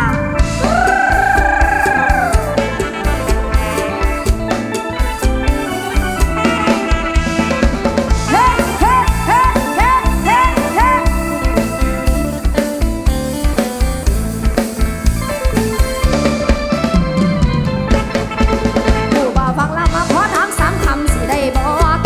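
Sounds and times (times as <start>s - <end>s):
lead instrument swooping phrases: 0.0s - 21.8s
bass line: 0.0s - 22.0s
drum kit beat: 0.0s - 22.0s.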